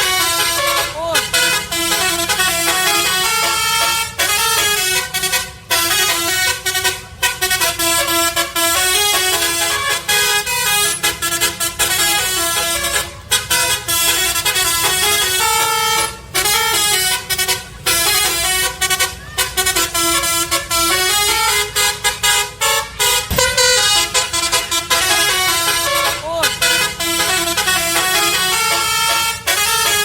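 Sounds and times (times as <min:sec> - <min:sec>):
musical air horn playing tune: 0:00.0 - 0:30.0.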